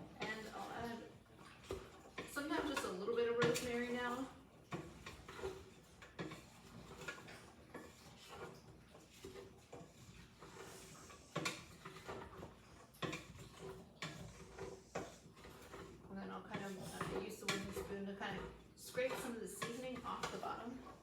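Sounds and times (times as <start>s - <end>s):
kitchen utensils tapping and clicking: 1.7s - 21.0s.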